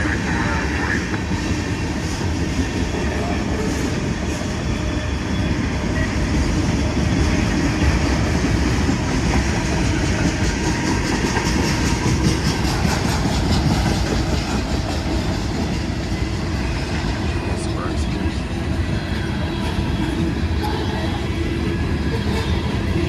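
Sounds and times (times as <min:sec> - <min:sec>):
freight train cars rumbling: 0:00.0 - 0:23.0.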